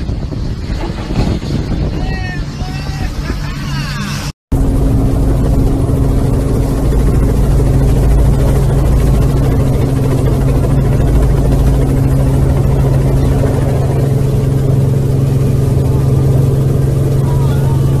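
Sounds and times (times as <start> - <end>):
helicopter engine and rotor drone: 0.0 - 18.0
rushing wind: 0.0 - 18.0.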